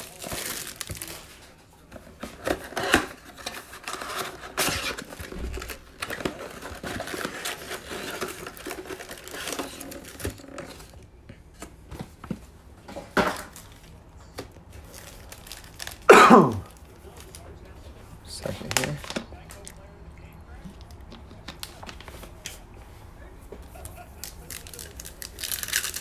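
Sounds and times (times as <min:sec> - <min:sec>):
cardboard and wrappers rustling: 0:00.0 - 0:19.9, 0:20.5 - 0:26.0.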